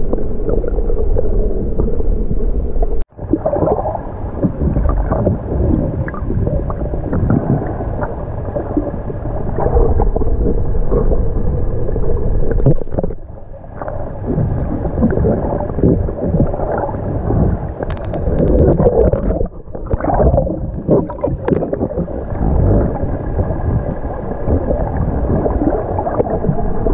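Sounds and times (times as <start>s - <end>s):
underwater water sloshing and gurgling: 0.0s - 26.9s.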